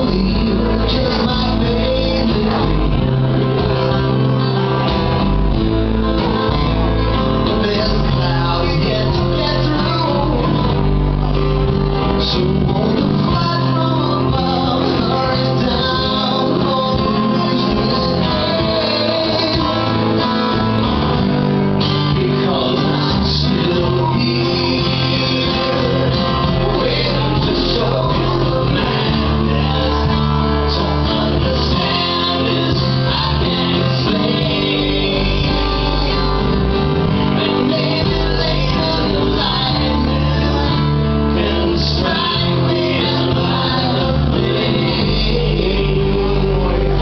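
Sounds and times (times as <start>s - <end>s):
live band playing guitars: 0.0s - 47.0s
person singing: 0.0s - 47.0s.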